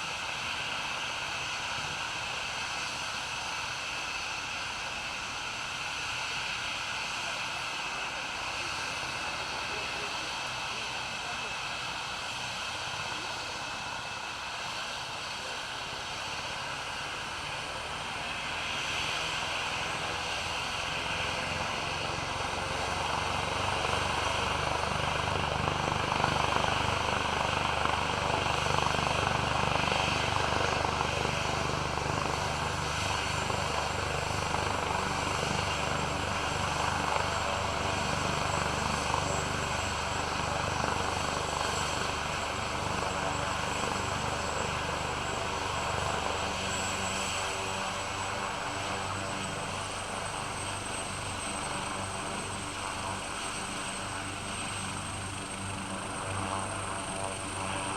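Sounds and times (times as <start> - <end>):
helicopter engine and rotor: 0.0 - 57.9.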